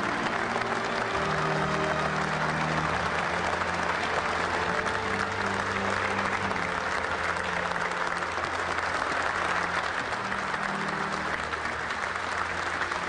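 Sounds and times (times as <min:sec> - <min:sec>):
crowd applauding: 0:00.0 - 0:13.0
low background music: 0:00.0 - 0:13.0.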